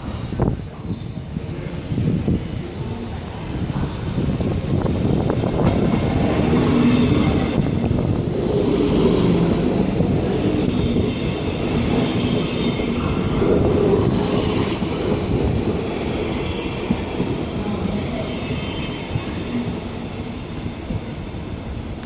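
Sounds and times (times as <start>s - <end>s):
train passing on tracks: 0.0s - 22.0s.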